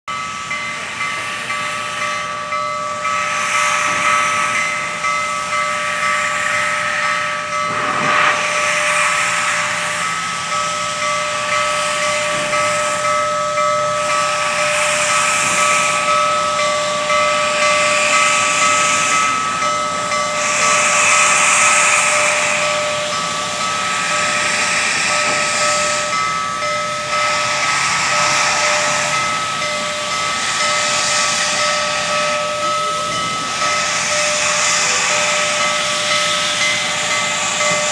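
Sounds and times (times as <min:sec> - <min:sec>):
steam hissing: 0:00.1 - 0:37.9.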